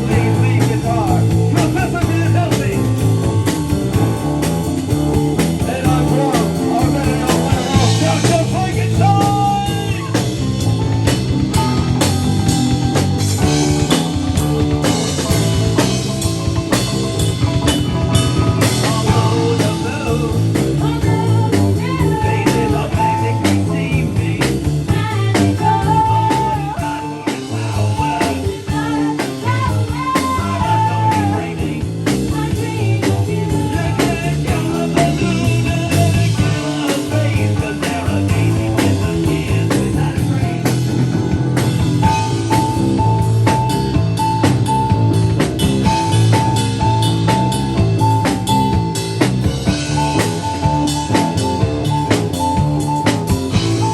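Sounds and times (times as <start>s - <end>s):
drum kit beat: 0.0s - 53.9s
electric guitar: 0.0s - 53.9s
held melody line: 0.0s - 53.9s.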